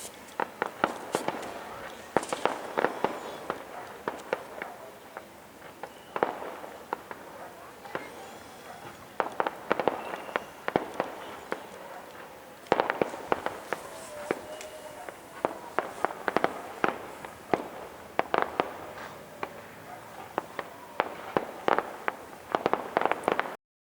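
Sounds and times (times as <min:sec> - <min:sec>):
fireworks popping: 0:00.0 - 0:23.6.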